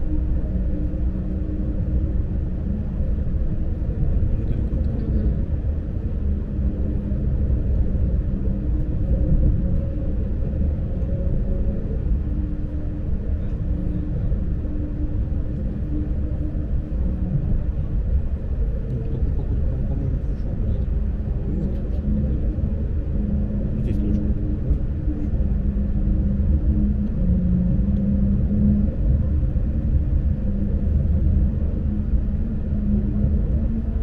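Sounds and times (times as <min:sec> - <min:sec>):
faint humming tones: 0:00.0 - 0:34.0
train running rumble: 0:00.0 - 0:34.0.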